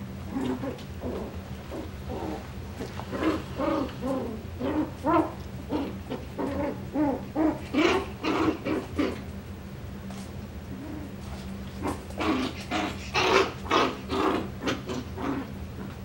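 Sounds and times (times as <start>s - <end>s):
puppies yipping and growling: 0.2s - 9.4s, 10.7s - 16.0s.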